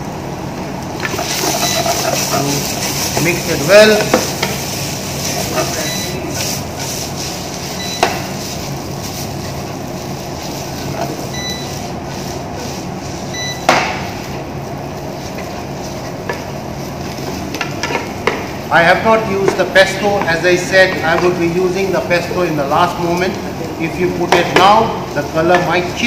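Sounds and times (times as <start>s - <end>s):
pasta sizzling in a frying pan: 0.9s - 26.0s.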